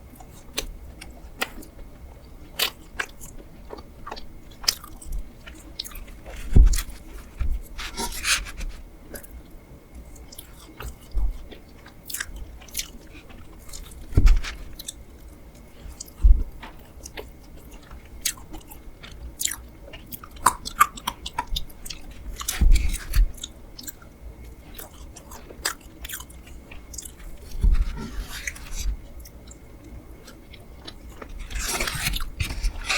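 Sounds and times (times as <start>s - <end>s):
person chewing: 2.6s - 9.4s, 10.2s - 16.2s, 17.0s - 24.1s, 24.7s - 32.9s.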